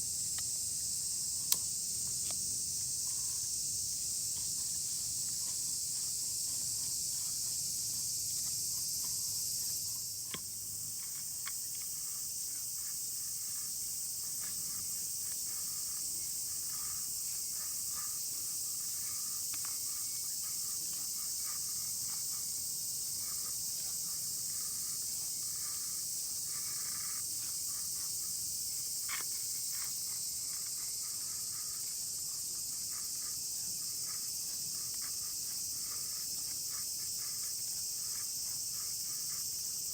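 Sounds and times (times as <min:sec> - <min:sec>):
high-pitched insect chorus: 0:00.0 - 0:39.9
faint ticks: 0:00.2 - 0:03.6, 0:04.2 - 0:39.9.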